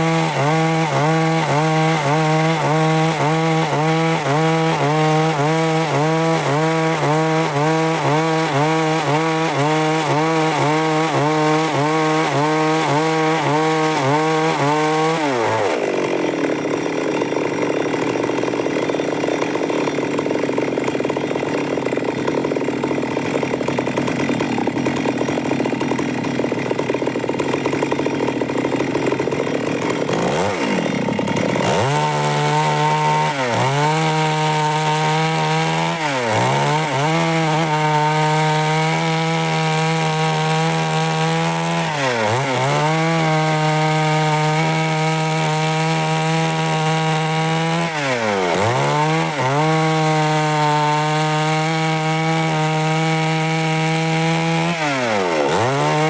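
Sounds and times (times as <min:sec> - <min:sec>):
chainsaw engine: 0:00.0 - 0:56.0
rough sawing noise: 0:00.0 - 0:56.0.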